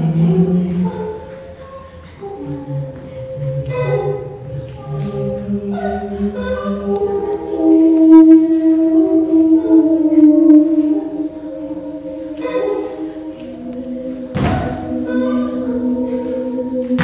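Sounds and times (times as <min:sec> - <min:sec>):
held low tone: 0:00.0 - 0:17.0
sustained pitched electronic tones: 0:00.0 - 0:17.0.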